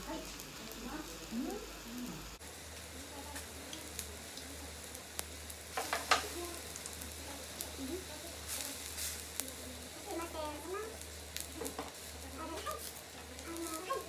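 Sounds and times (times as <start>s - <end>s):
hot pot hissing and sizzling: 0.0s - 14.0s.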